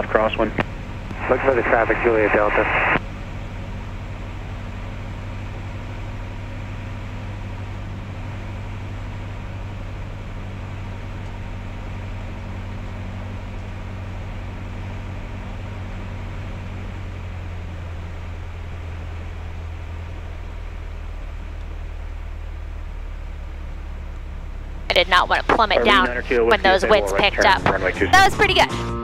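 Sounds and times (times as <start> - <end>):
light airplane engine droning: 0.0 - 28.8.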